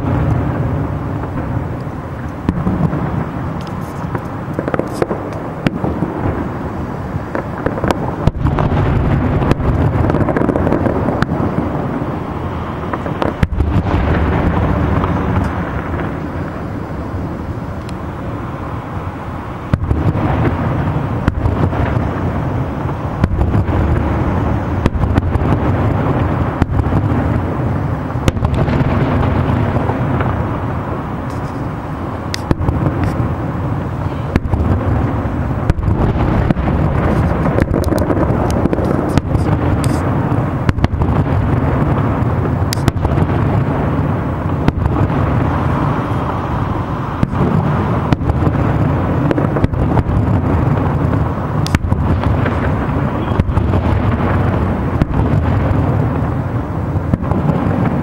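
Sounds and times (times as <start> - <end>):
fireworks bangs and crackle: 0.0 - 58.0
low rumble of booms: 0.0 - 58.0.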